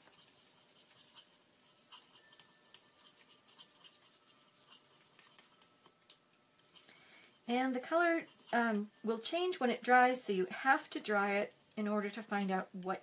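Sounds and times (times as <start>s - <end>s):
paintbrush brushing in dish: 0.0s - 12.4s.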